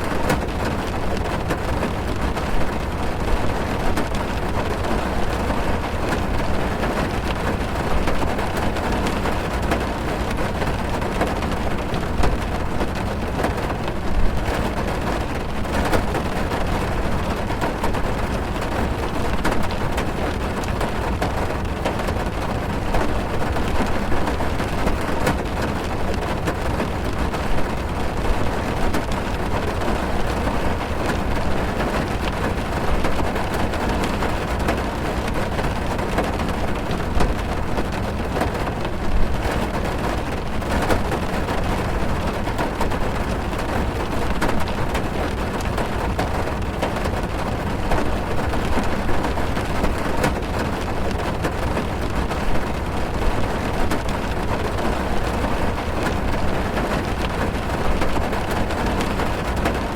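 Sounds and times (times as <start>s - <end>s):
rain on car roof: 0.0s - 59.9s.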